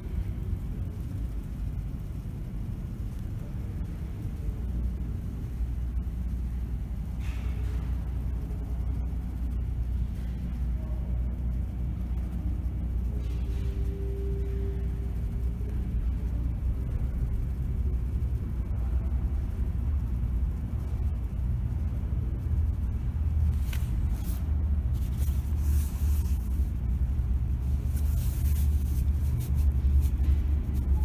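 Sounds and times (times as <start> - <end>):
subway train rumble: 0.0 - 31.0.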